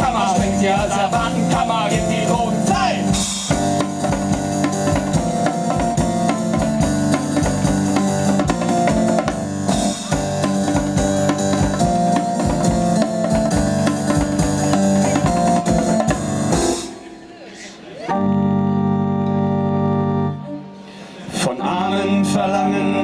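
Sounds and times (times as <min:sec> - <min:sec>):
live band playing: 0:00.0 - 0:23.0.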